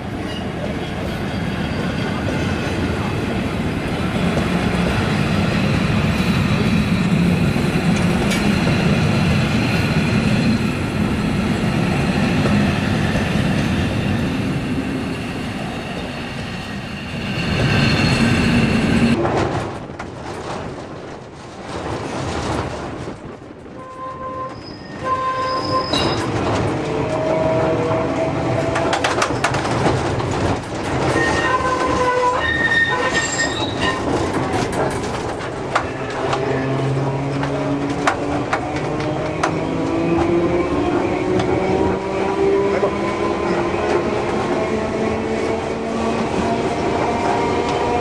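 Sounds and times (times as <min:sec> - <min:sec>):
train running inside carriage: 0:00.0 - 0:48.0.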